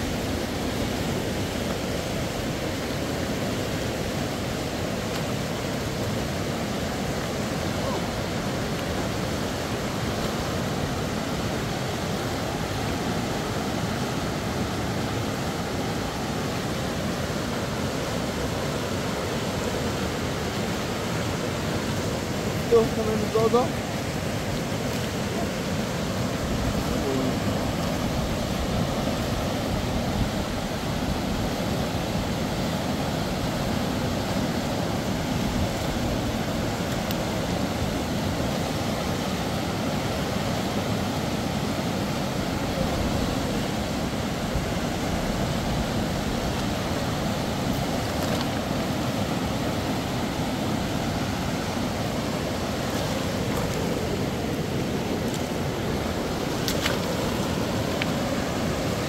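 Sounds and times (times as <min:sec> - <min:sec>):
rushing river water: 0:00.0 - 0:59.0.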